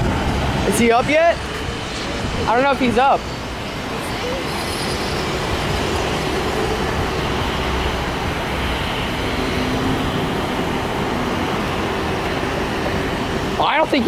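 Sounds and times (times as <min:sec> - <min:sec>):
jet engines at takeoff power: 0:00.0 - 0:14.0.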